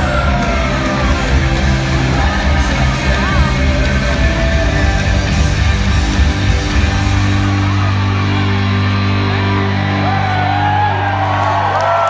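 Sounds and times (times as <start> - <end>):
hard rock music over pa: 0.0 - 11.7.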